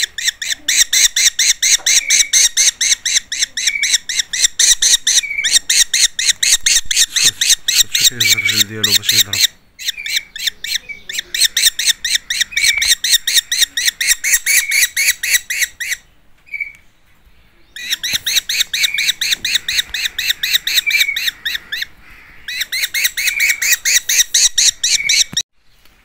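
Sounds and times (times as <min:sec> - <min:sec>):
bird nestlings calling: 0:00.0 - 0:16.8, 0:17.7 - 0:25.4.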